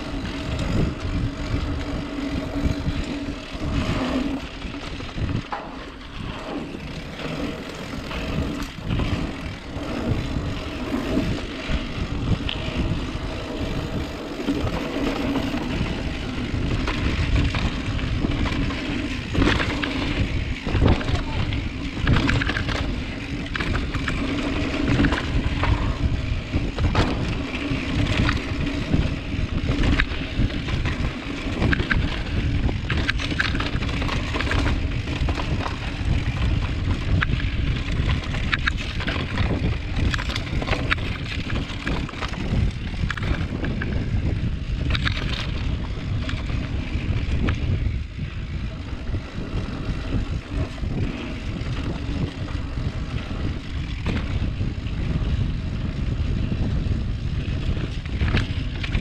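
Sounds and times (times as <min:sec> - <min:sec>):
bike clicks and rattles: 0:00.0 - 0:59.0
tyres rumbling on dirt: 0:00.0 - 0:59.0
wind buffeting microphone: 0:00.0 - 0:59.0.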